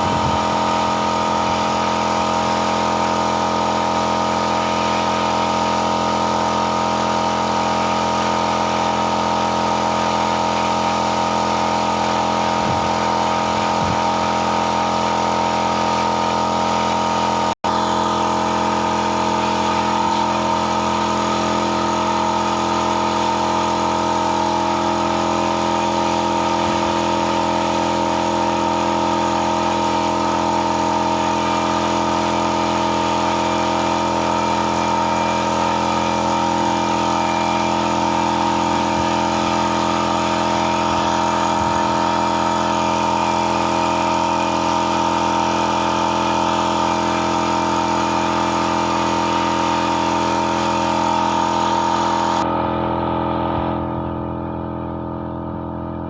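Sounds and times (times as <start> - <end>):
motor running steadily: 0.0 - 56.0.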